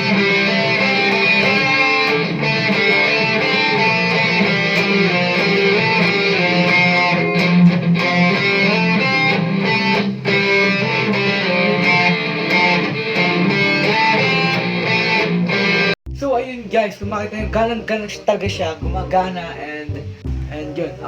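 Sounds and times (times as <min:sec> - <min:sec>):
electric guitar playing: 0:00.0 - 0:21.0.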